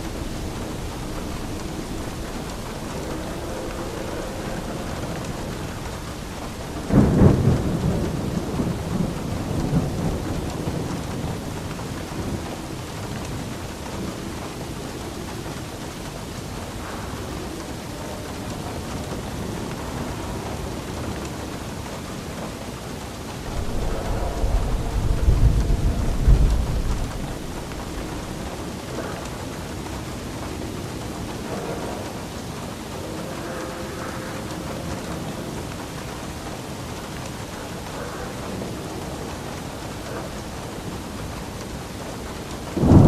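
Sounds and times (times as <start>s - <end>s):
low thunder rumble: 0.0s - 43.0s
steady rain: 0.0s - 43.0s
thunder clap: 0.0s - 43.0s.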